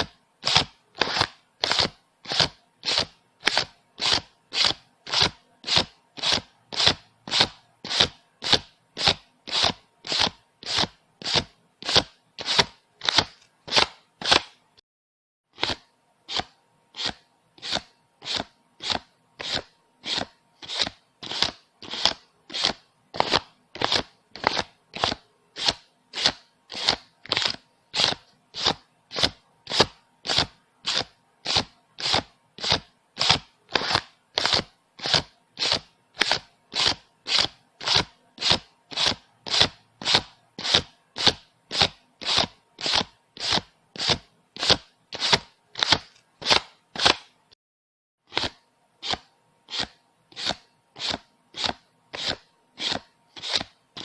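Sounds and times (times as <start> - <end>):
banknotes rustling when counted: 0.0 - 14.6, 15.6 - 47.4, 48.3 - 54.0.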